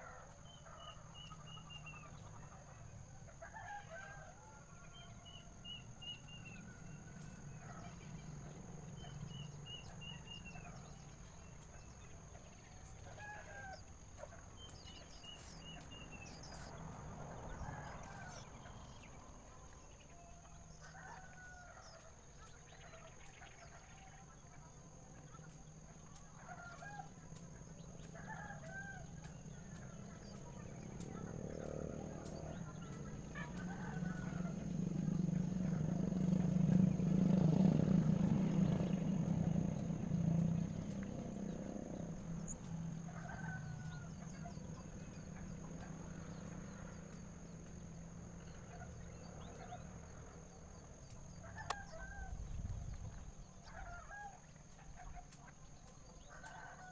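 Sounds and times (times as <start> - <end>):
birds chirping: 0.0 - 56.8.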